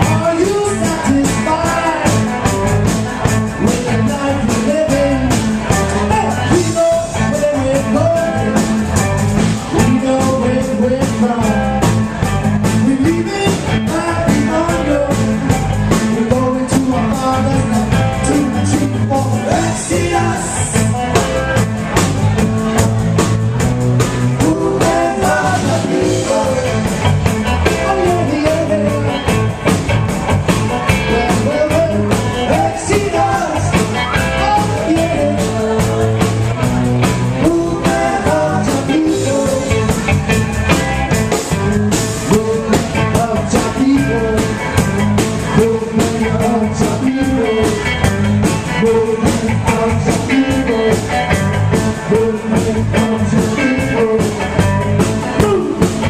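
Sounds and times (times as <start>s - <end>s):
person singing: 0.0s - 2.5s, 3.3s - 12.0s, 12.6s - 22.9s, 24.2s - 29.5s, 30.7s - 40.3s, 41.5s - 56.0s
guitar: 0.0s - 56.0s
live reggae band playing: 0.0s - 56.0s.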